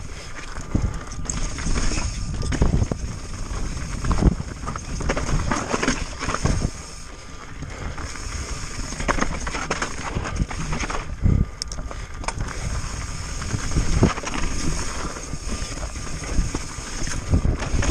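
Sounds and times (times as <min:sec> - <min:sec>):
wind rumble on microphone: 0:00.0 - 0:17.9
bike clattering over rocks: 0:00.3 - 0:07.0, 0:08.0 - 0:11.1, 0:12.2 - 0:17.9.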